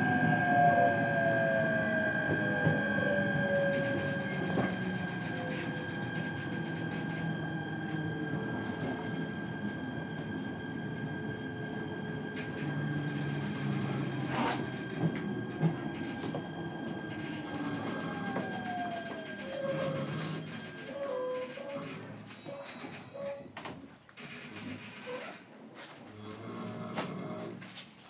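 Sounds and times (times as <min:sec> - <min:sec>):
electric train hum from inside: 0:00.0 - 0:23.6.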